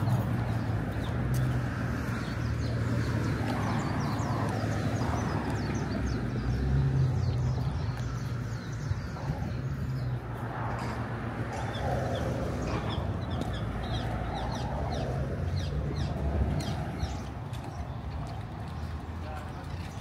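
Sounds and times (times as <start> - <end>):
birds chirping: 0.0 - 20.0
traffic engine rumble: 0.0 - 20.0.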